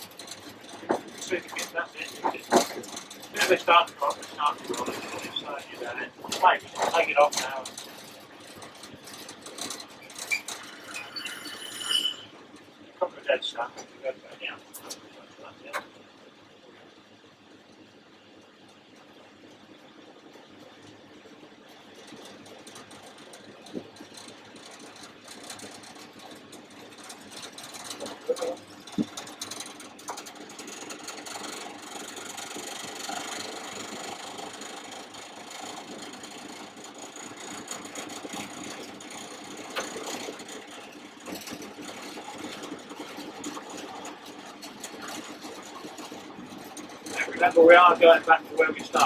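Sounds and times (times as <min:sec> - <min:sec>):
rattling in train cab: 0:00.0 - 0:15.9, 0:21.8 - 0:49.0
diesel locomotive engine running: 0:00.0 - 0:49.0.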